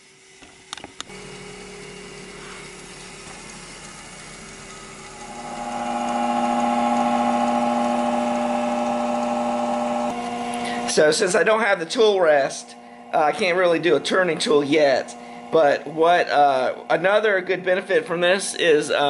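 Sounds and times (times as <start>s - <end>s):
bench grinder motor humming: 0.5s - 19.0s.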